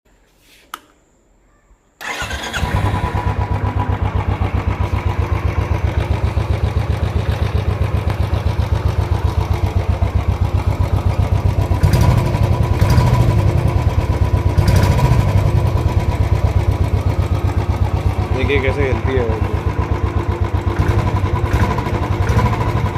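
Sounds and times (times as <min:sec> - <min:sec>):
motorcycle engine starting and idling: 0:02.0 - 0:22.9.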